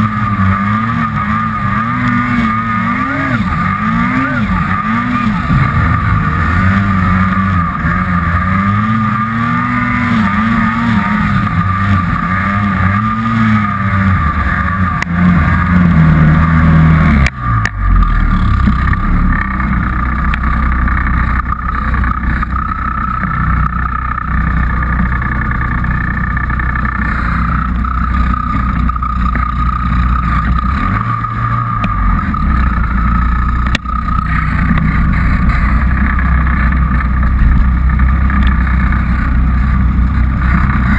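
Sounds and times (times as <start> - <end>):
snowmobile engine revving: 0.0 - 40.9
steady high whine: 0.0 - 40.9.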